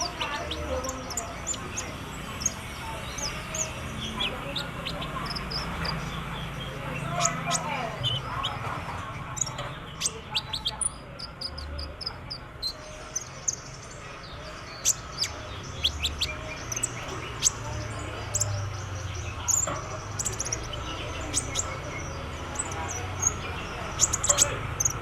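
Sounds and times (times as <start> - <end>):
sunbird chirps and trills: 0.0 - 25.0.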